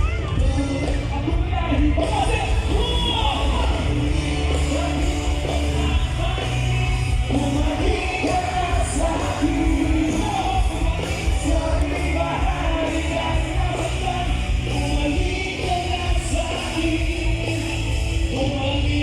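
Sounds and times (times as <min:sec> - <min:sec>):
live band music: 0:00.0 - 0:19.0
person singing: 0:00.0 - 0:19.0.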